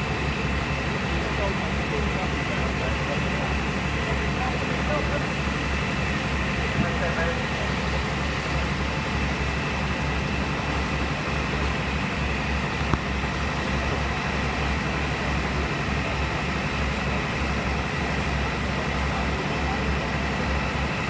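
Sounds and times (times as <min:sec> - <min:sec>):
fire engine idling: 0:00.0 - 0:21.0.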